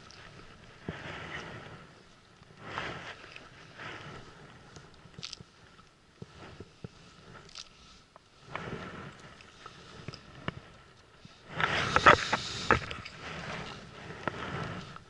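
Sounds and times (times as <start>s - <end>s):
rustling in inflatable boat: 0.0s - 15.0s.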